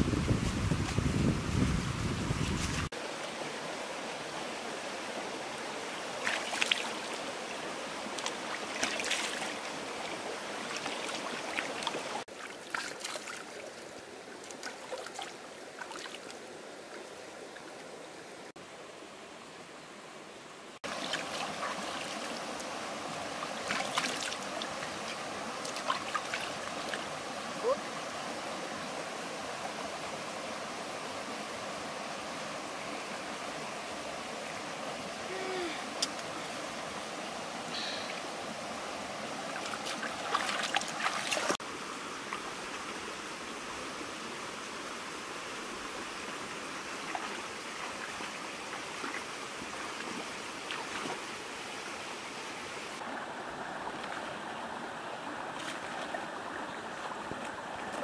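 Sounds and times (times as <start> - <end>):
rocky stream running: 0.0 - 58.0.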